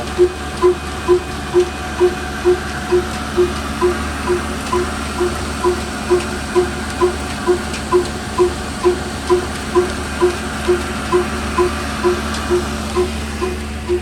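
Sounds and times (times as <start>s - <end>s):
constant hum: 0.0s - 14.0s
slow diesel engine running: 0.0s - 14.0s.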